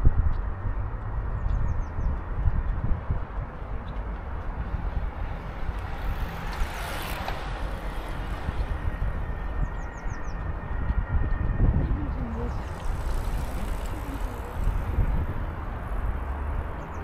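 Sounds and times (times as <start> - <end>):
low city rumble: 0.0 - 17.0
vehicle passing: 0.0 - 17.0.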